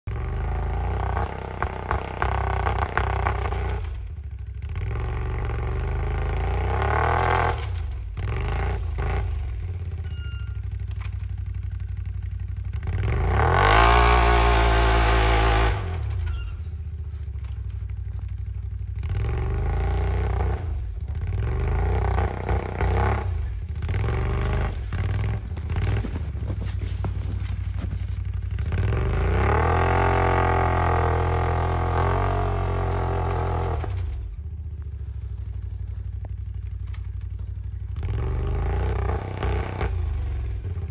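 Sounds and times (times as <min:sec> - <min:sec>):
atv engine revving: 0:00.0 - 0:40.9
wheels spinning in snow: 0:00.0 - 0:40.9.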